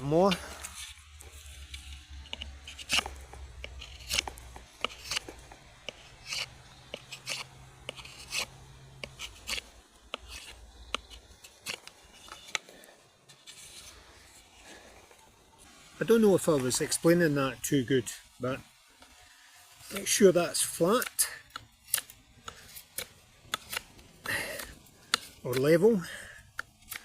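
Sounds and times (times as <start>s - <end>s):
knife scraping wooden stick: 0.1s - 15.7s, 19.8s - 25.9s.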